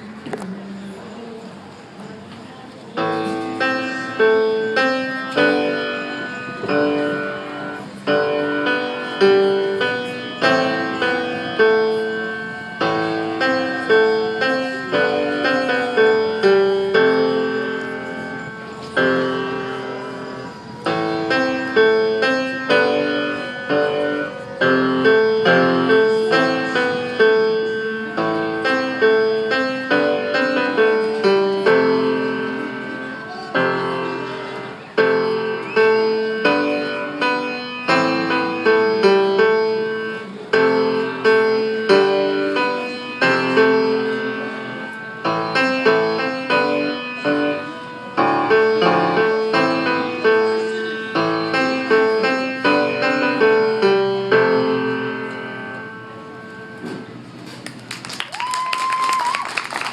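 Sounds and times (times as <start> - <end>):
piano melody: 2.9 - 57.7.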